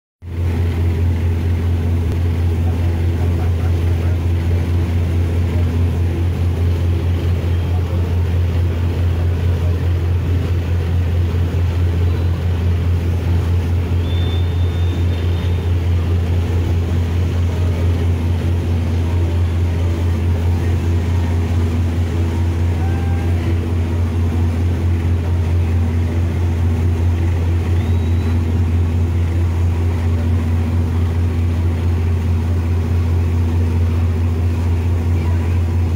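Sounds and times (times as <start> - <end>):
boat diesel engine droning: 0.2 - 35.9.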